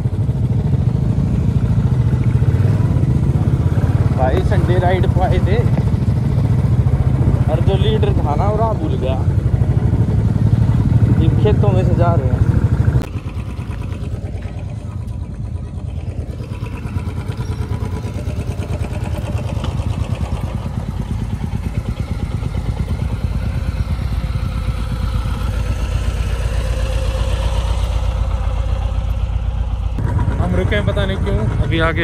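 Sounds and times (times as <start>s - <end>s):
motorcycle engines idling: 0.0s - 32.0s.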